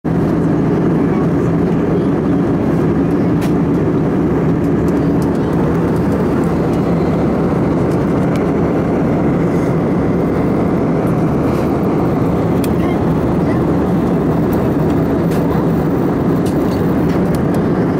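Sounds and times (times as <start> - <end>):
airplane cabin drone: 0.0 - 17.9.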